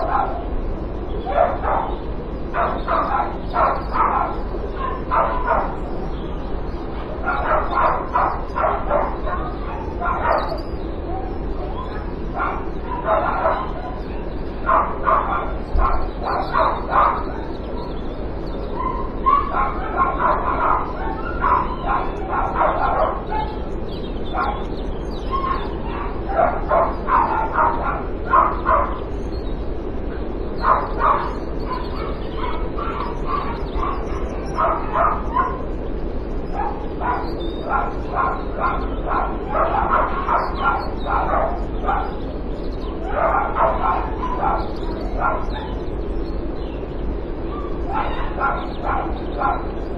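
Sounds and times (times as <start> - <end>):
dog barking: 0.0 - 18.0, 18.7 - 29.2, 30.1 - 49.9.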